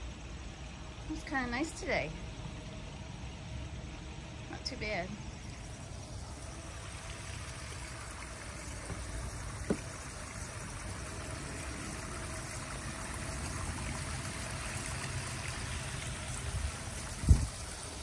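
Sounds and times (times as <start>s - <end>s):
trickle of running water: 0.0s - 18.0s.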